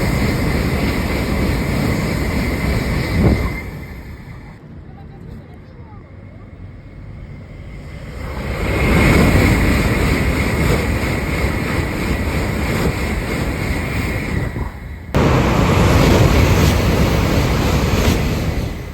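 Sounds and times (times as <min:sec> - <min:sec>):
train passing at speed: 0:00.0 - 0:18.9.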